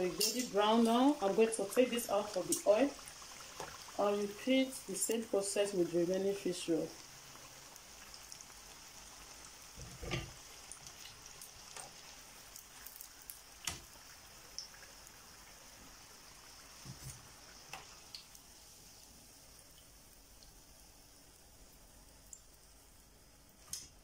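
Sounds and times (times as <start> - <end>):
oil sizzling in a frying pan: 0.0 - 24.0.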